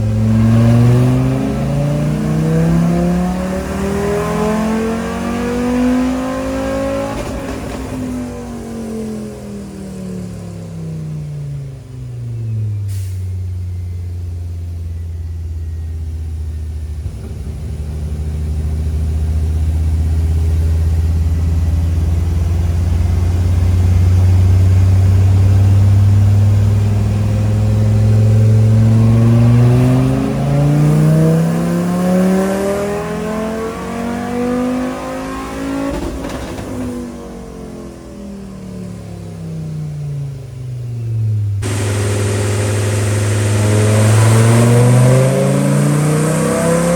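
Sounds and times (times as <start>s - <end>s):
race engine on dyno: 0.0s - 46.9s.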